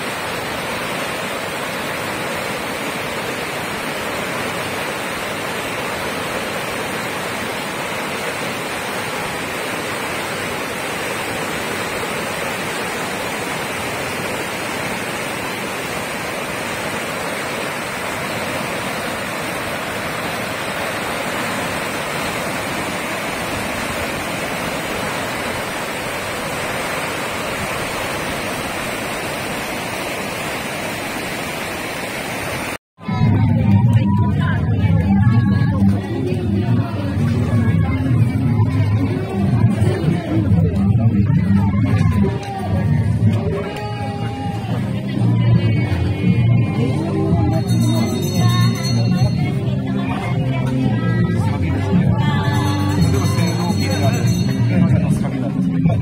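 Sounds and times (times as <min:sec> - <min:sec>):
rushing tidal water: 0:00.0 - 0:56.0.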